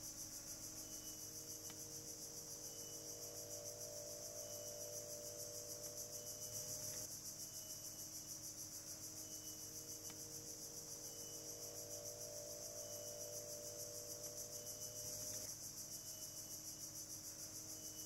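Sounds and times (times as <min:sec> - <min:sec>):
insect chorus pulsing buzz: 0:00.0 - 0:18.0.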